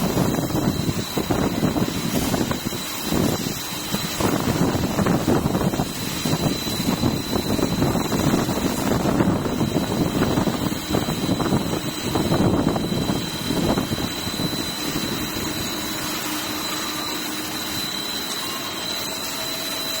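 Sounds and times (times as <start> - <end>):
high machine whine: 0.0 - 20.0
milling machine cutting metal: 0.0 - 20.0.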